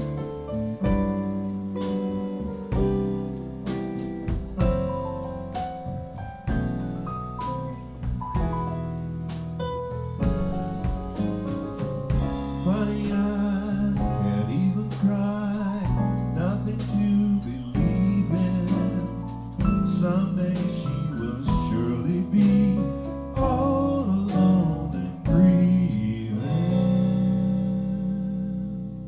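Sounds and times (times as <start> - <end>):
drum kit: 0.0 - 27.7
bass guitar: 0.0 - 29.0.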